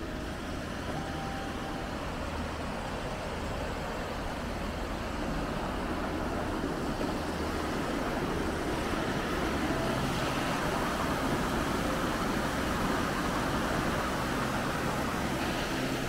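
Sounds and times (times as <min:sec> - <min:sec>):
river water rushing over weir: 0:00.0 - 0:16.0.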